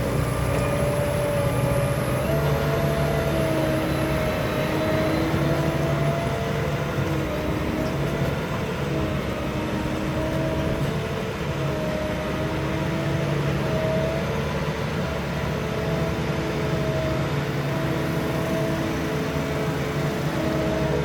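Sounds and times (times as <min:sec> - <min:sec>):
potato harvester machinery drone: 0:00.0 - 0:21.0.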